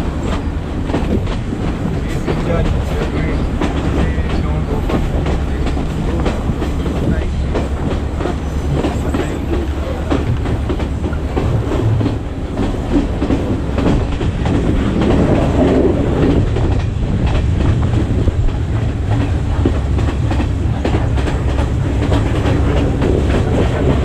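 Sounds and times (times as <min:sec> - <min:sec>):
train rumbling: 0:00.0 - 0:24.0
wheels clattering over rail joints: 0:00.0 - 0:24.0.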